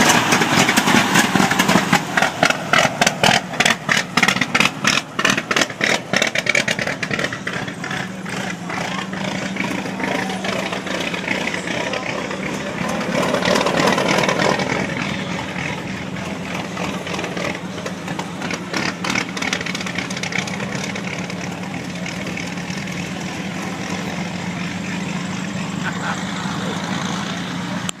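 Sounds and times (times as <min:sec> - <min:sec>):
old car engine running: 0:00.0 - 0:28.0.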